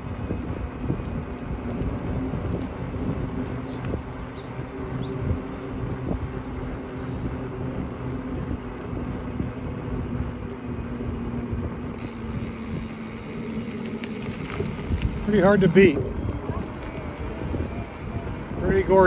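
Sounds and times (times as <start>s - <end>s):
steady low hum: 0.0s - 18.6s
bicycle tyres rolling on asphalt: 0.0s - 19.0s
wind buffeting microphone: 0.0s - 19.0s.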